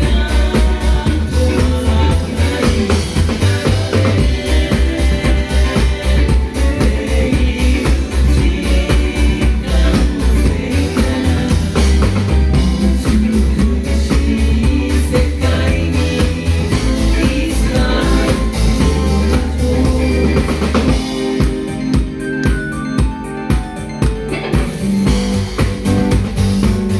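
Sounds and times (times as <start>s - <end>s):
strong bass notes: 0.0s - 21.9s, 24.2s - 26.9s
drum kit: 0.0s - 26.9s
live band playing instrumental: 0.0s - 26.9s.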